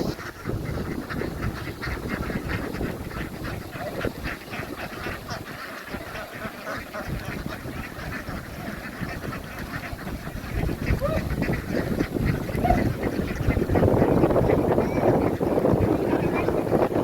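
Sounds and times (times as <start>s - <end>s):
ducks quacking: 0.0s - 17.0s.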